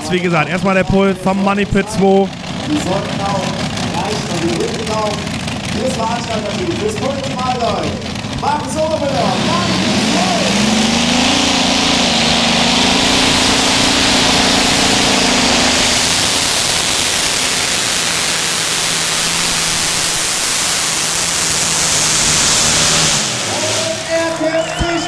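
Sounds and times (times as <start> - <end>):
pulling tractor engine roaring: 0.0 - 25.0.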